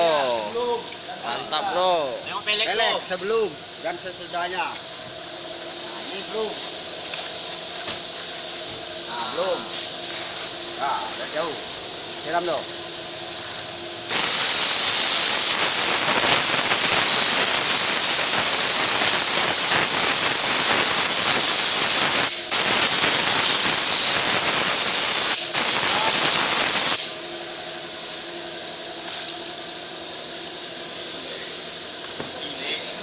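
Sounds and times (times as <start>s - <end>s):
water jet spraying with hiss: 0.0s - 33.0s.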